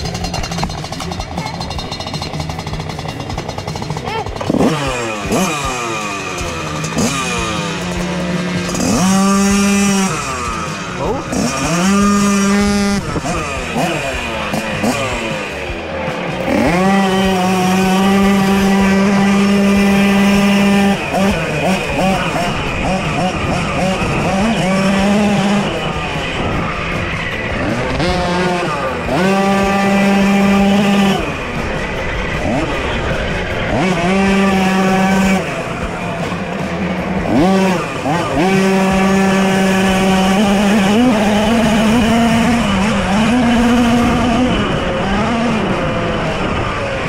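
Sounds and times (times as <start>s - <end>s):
two-stroke moped engine revving: 0.0s - 47.0s.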